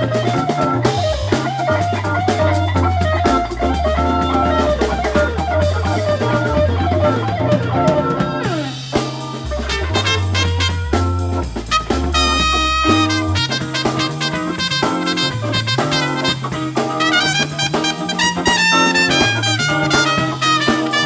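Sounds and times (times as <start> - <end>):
bass line: 0.0 - 21.0
drum beat: 0.0 - 21.0.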